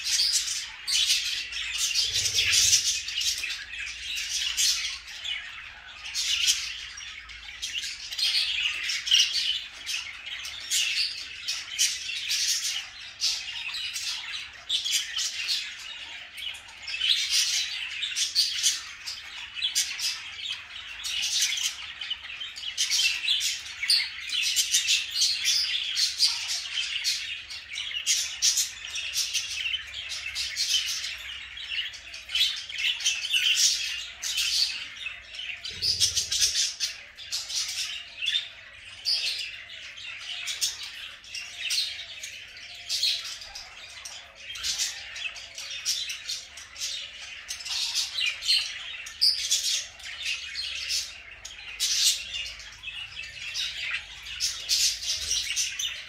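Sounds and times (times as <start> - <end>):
budgerigars chattering: 0.0 - 56.0.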